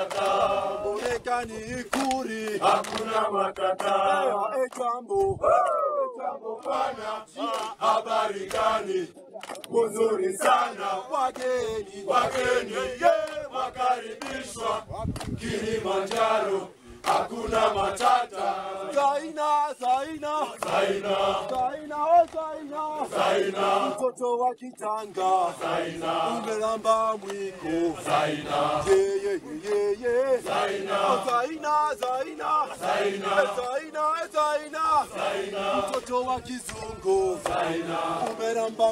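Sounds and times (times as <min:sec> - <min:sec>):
men singing a chanted song: 0:00.0 - 0:38.9
people clapping along: 0:00.0 - 0:38.9.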